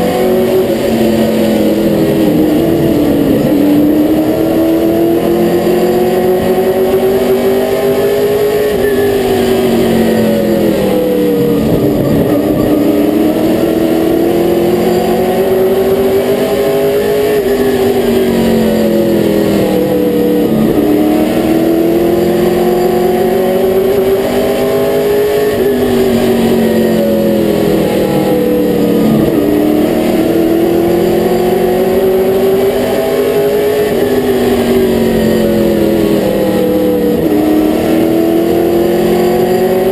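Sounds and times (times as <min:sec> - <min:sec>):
race car engine at speed: 0:00.0 - 0:39.9
road and tyre noise: 0:00.0 - 0:39.9.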